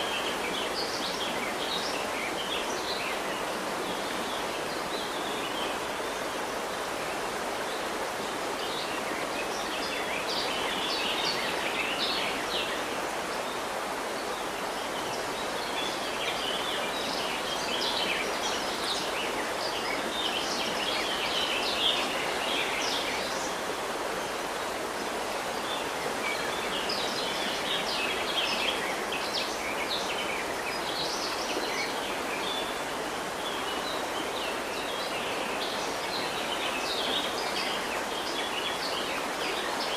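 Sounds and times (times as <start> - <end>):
river water running: 0.0 - 39.9
small birds twittering: 0.0 - 39.9.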